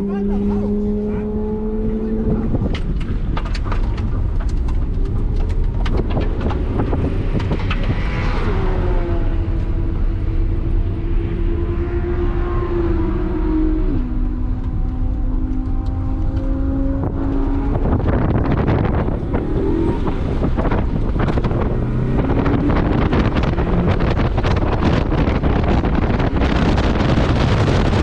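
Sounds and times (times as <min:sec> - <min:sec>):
car engine running hard: 0:00.0 - 0:28.0
wind buffeting microphone: 0:00.0 - 0:28.0.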